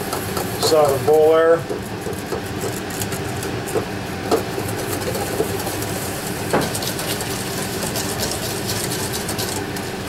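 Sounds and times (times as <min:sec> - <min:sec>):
steady background hum: 0:00.0 - 0:10.0
whisk scraping metal bowl: 0:00.0 - 0:10.0.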